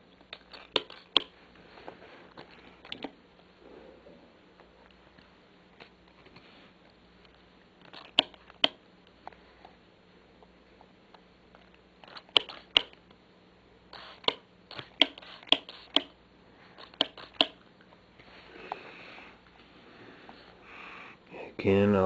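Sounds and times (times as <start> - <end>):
soft rustling hiss: 0.0 - 22.0.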